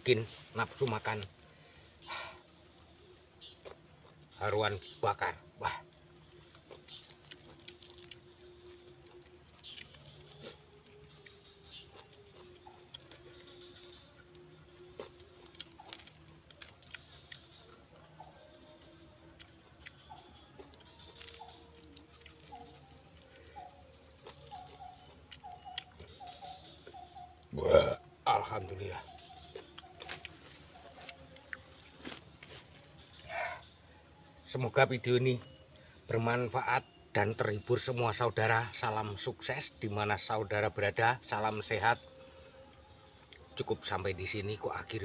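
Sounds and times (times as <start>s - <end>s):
insects chirping chorus: 0.0s - 45.0s.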